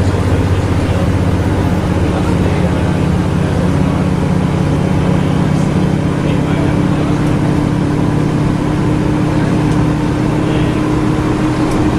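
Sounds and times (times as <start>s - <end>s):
bus engine drone: 0.0s - 11.9s.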